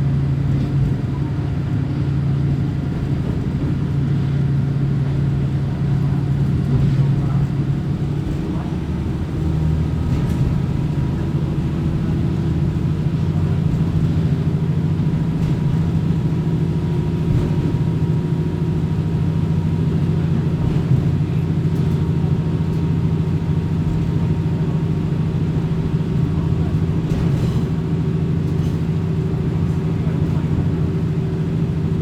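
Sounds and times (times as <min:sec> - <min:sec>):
diesel engine drone: 0:00.0 - 0:32.0
train wheels rumbling on track: 0:00.0 - 0:32.0.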